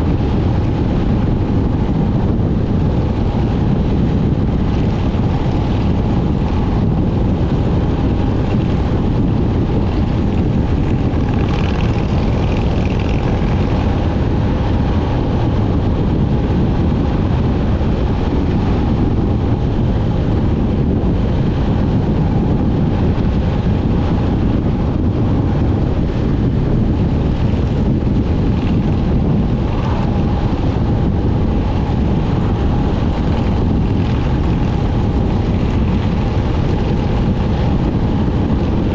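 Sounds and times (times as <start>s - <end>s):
motorcycle engine: 0.0s - 38.9s
wind rumble on microphone: 0.0s - 38.9s.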